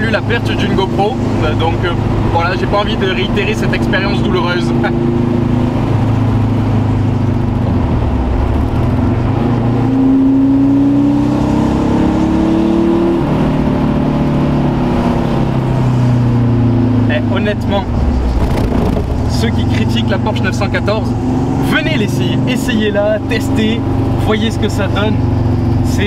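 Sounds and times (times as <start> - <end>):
car engine revving while driving: 0.0 - 26.0.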